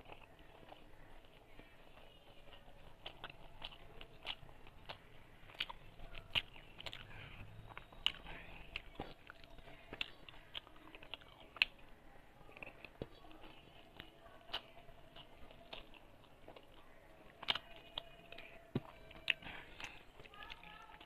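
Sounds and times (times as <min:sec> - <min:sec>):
person chewing: 0:00.0 - 0:21.0.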